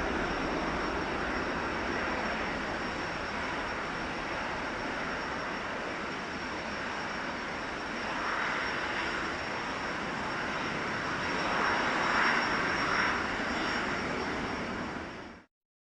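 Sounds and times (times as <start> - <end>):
airplane engines rushing: 0.0 - 15.5.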